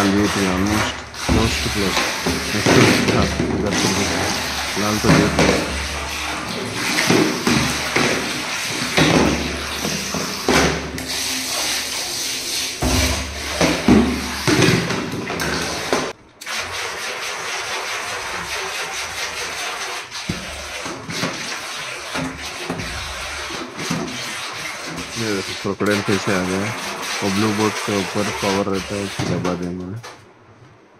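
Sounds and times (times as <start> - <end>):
propeller splashing water: 0.0 - 29.3.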